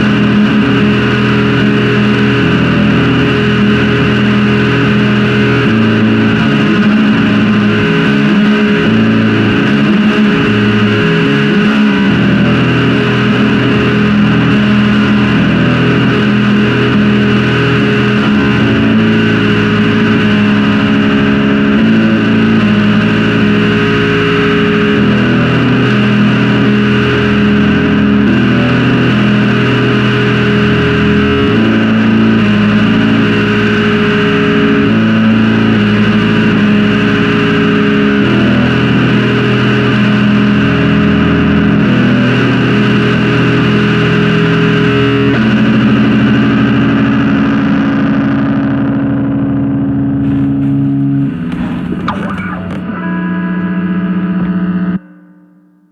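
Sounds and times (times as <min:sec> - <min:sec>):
distorted guitar chords: 0:00.0 - 0:55.9.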